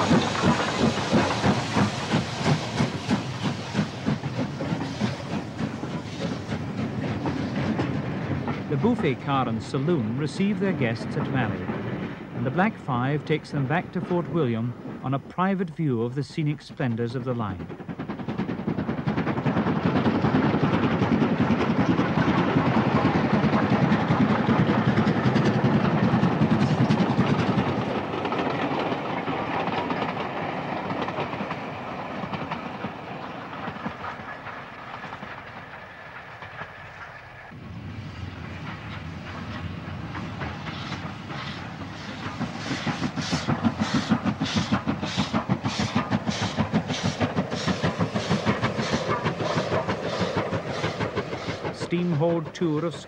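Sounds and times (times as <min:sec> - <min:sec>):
rumble of running train: 0:00.0 - 0:53.0
steam locomotive exhaust chuffs: 0:00.0 - 0:53.0.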